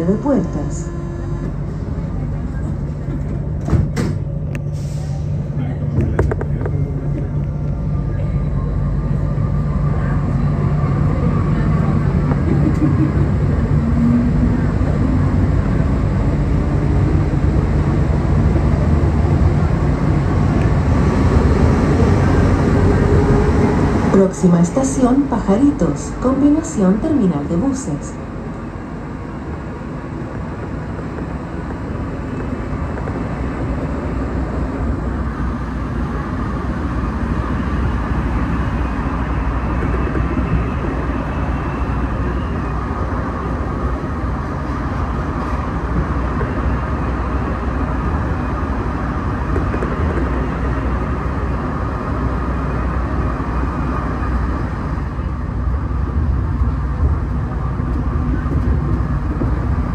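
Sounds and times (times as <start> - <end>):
metro car low rumble: 0.0 - 59.9.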